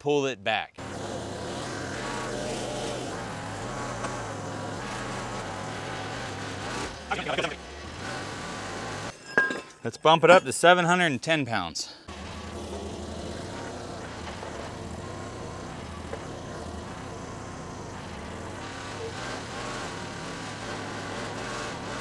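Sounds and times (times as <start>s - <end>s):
skid steer engine running: 0.8s - 9.1s, 12.1s - 22.0s.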